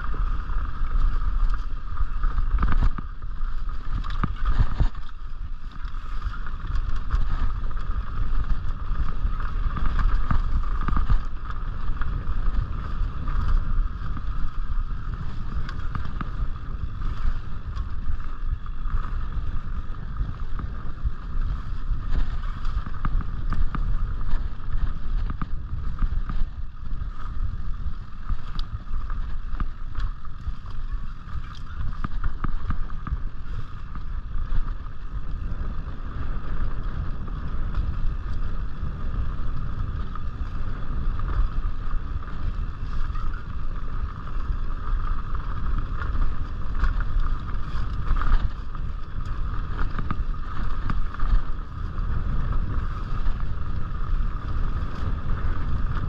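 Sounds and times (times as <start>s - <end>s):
bike rattling over bumps: 0.0s - 56.0s
constant buzzing hum: 0.0s - 56.0s
tyres on dirt trail: 0.0s - 56.0s
wind on microphone: 0.0s - 56.0s.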